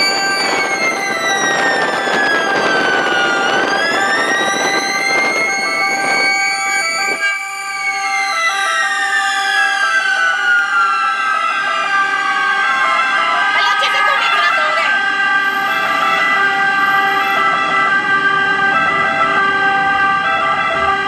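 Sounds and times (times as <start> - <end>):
two-tone sirens: 0.0 - 21.0
wailing siren: 0.0 - 21.0.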